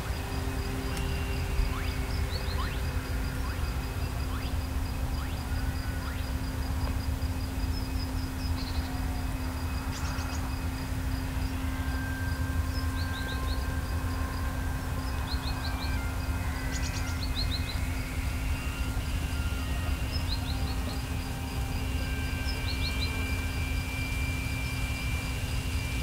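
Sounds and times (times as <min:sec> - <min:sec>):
faint high insect tone: 0:00.0 - 0:26.0
low wind rumble: 0:00.0 - 0:26.0
small birds chirping: 0:00.0 - 0:26.0.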